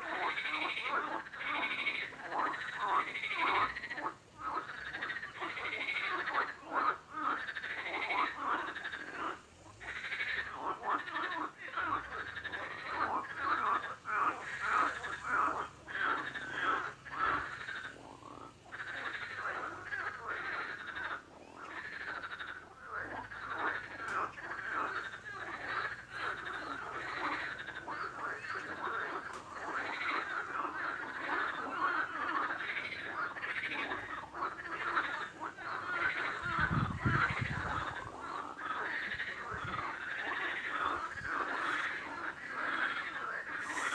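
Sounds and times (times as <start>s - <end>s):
frogs croaking: 0.0s - 43.9s.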